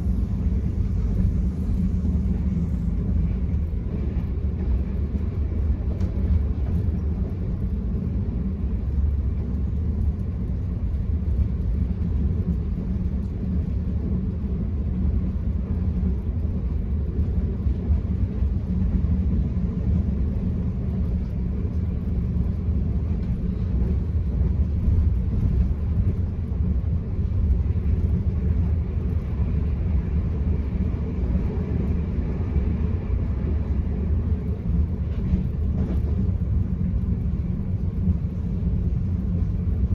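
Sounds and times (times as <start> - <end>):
passenger train rumble from inside: 0.0 - 39.9.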